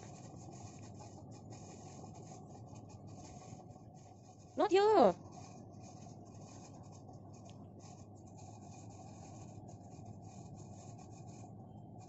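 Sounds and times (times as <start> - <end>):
cat scratching a blanket: 0.0 - 12.0.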